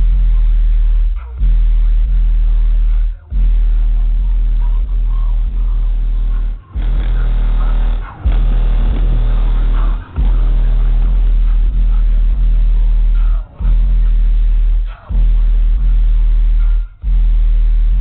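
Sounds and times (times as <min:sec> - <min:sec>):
hip-hop with deep bass: 0:00.0 - 0:18.0.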